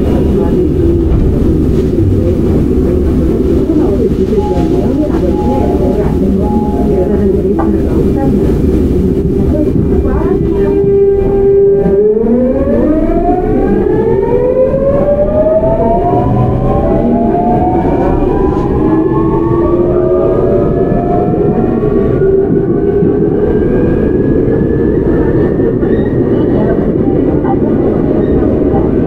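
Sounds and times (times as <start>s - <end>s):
train inverter whine: 0.0s - 27.8s
wheels rumbling on track: 0.0s - 29.0s.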